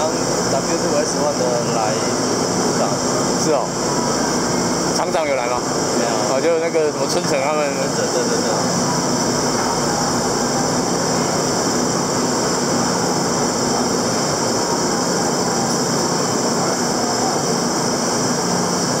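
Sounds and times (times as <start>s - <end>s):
conveyor belt machinery noise: 0.0s - 19.0s.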